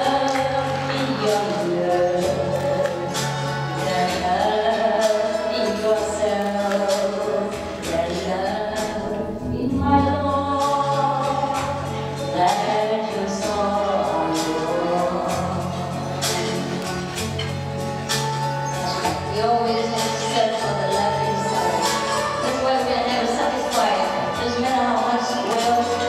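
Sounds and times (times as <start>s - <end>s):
woman singing: 0.0s - 17.3s, 18.8s - 26.0s
instrumental accompaniment: 0.0s - 26.0s.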